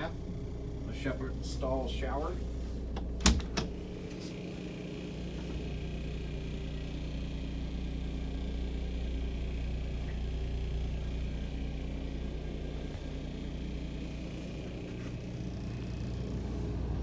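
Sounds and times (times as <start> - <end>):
boat machinery rumble and hum: 0.0 - 17.0.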